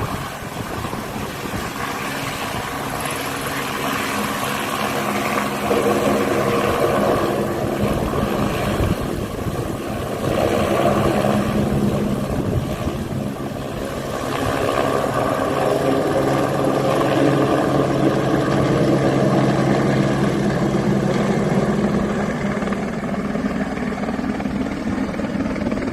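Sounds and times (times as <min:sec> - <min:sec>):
helicopter rotor and engine: 0:00.0 - 0:25.9.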